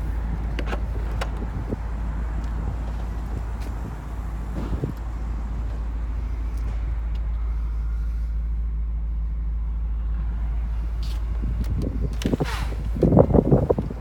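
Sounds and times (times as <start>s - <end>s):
car engine idling: 0.0s - 14.0s
wind rumble on microphone: 0.0s - 14.0s.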